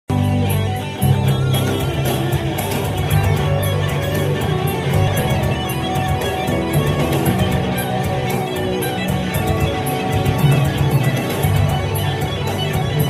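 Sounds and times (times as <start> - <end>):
backing music with steady beat: 0.1 - 13.0
electric guitar lead solo: 0.1 - 13.0.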